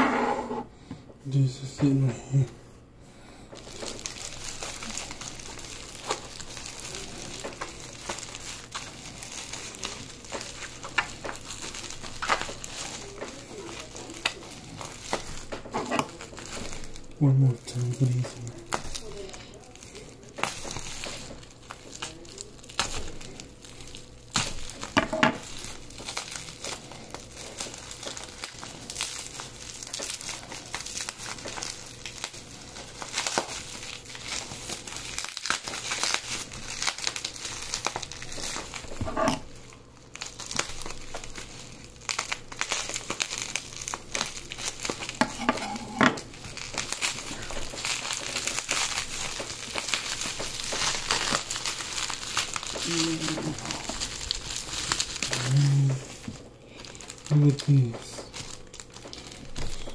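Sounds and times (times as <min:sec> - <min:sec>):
plastic packaging crinkling: 0:03.2 - 0:59.9.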